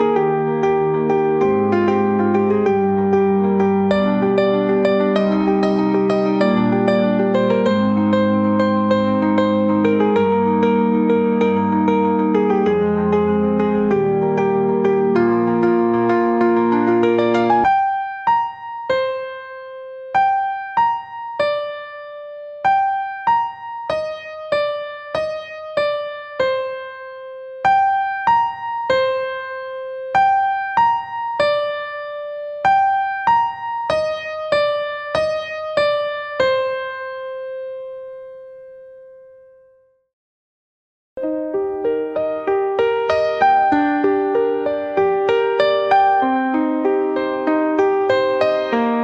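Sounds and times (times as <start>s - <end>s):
electric piano melody: 0.0s - 39.8s, 41.2s - 49.0s.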